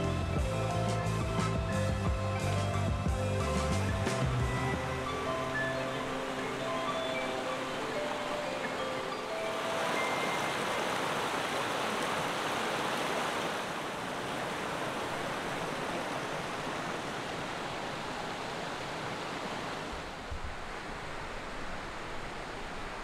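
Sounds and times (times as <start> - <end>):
creek rushing over boulders: 0.0 - 23.0.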